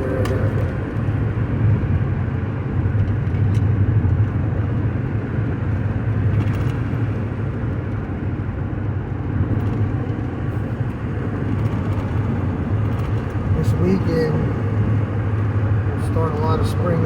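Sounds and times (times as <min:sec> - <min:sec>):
car interior road drone: 0:00.0 - 0:17.0.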